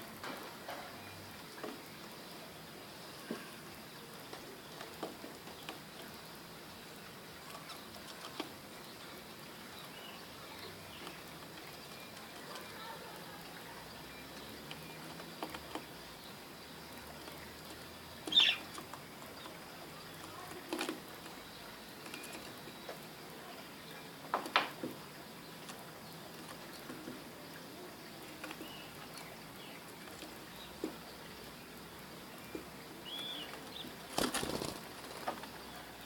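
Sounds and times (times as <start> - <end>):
faint steady hiss: 0.0 - 36.0
doves pecking taps and clicks: 3.2 - 6.4, 7.0 - 23.2, 24.1 - 36.0.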